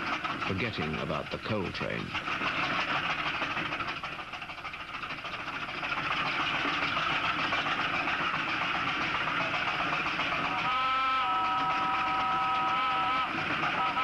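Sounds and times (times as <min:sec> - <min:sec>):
steam train running: 0:00.0 - 0:14.0.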